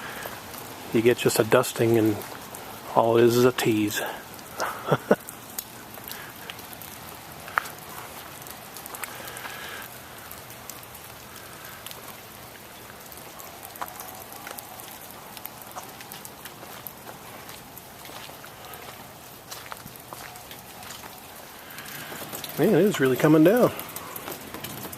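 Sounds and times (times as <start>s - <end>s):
drips ticking: 0.0s - 24.9s
wet snow pattering: 0.0s - 24.9s.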